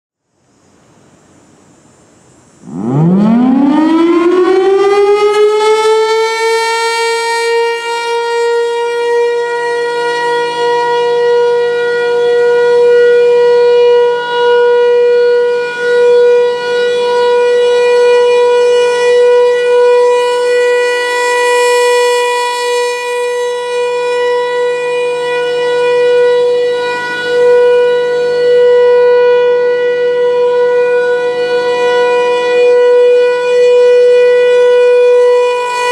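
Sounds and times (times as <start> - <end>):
siren wailing: 2.6 - 35.9.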